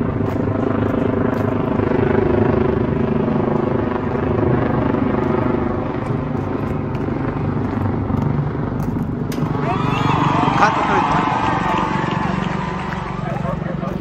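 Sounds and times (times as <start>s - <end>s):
helicopter rotor and engine drone: 0.0s - 14.0s.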